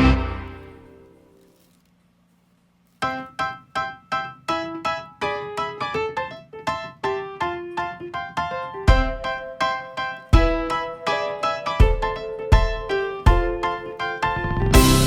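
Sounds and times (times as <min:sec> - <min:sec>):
light piano tune: 0:02.9 - 0:15.0.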